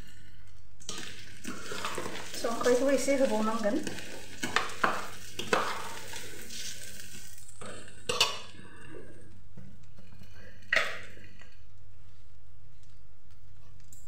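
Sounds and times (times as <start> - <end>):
faint sizzle: 0.0 - 14.0.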